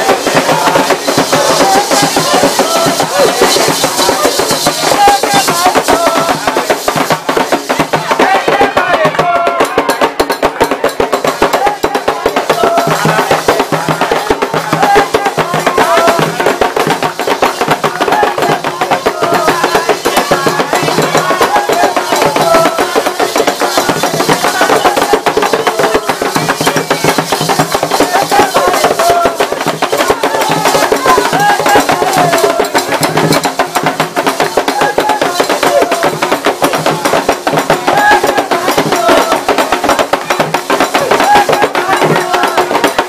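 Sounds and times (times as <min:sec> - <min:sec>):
group singing a chant: 0:00.0 - 0:43.0
hand drums beating fast rhythm: 0:00.0 - 0:43.0.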